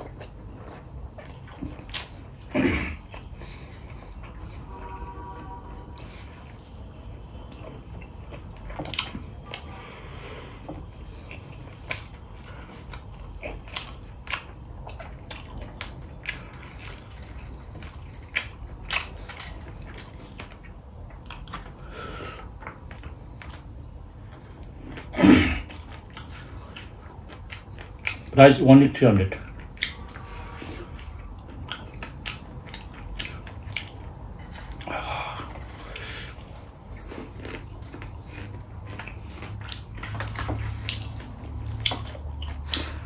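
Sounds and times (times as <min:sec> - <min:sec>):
person chewing: 0:00.0 - 0:28.4, 0:29.3 - 0:43.0.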